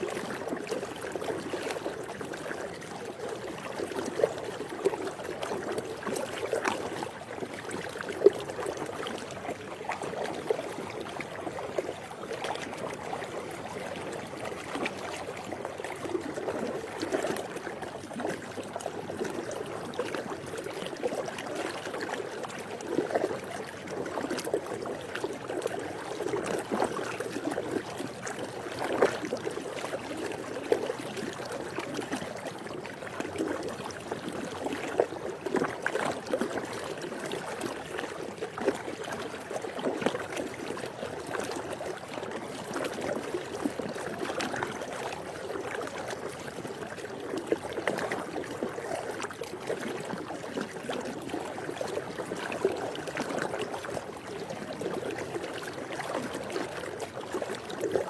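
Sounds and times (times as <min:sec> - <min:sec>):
pool water lapping and trickling: 0:00.0 - 0:58.0
small water splashes: 0:00.0 - 0:58.0.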